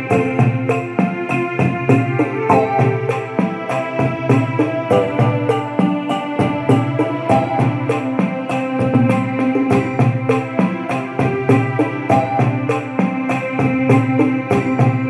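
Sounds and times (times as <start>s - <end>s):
electronic keyboard hymn tune: 0.0s - 15.0s
steady drum pattern: 0.0s - 15.0s.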